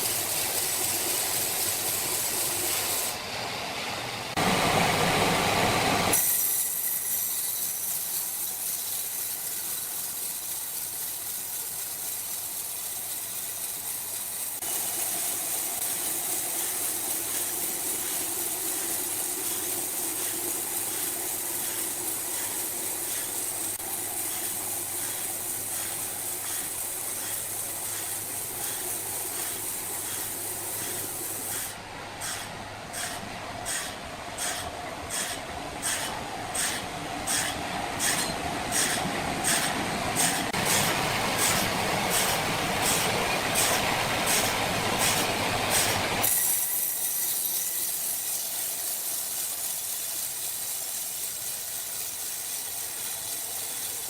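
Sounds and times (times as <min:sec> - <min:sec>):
mechanical hiss: 0:05.8 - 0:54.0.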